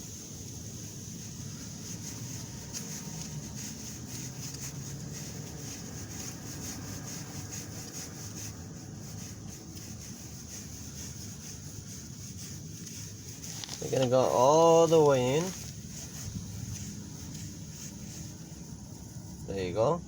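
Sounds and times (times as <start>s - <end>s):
constant high hiss: 0.0s - 20.0s
small irregular ticks: 0.0s - 20.0s
metal rubbing and scraping: 0.7s - 20.0s.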